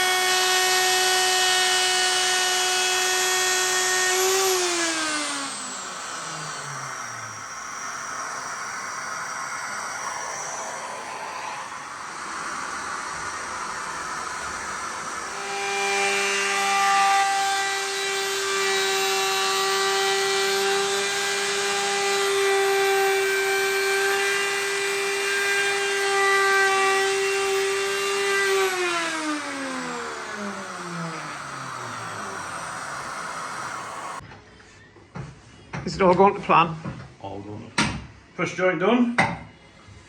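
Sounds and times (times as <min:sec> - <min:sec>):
electric router whining: 0:00.0 - 0:34.2.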